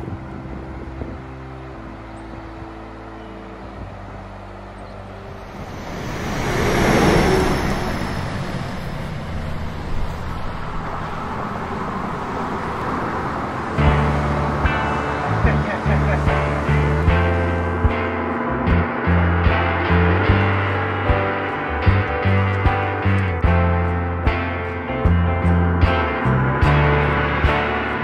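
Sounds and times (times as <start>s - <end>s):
background music: 0.0s - 8.9s, 12.8s - 28.0s
road vehicle passing: 0.0s - 28.0s
steady traffic hum: 0.0s - 28.0s.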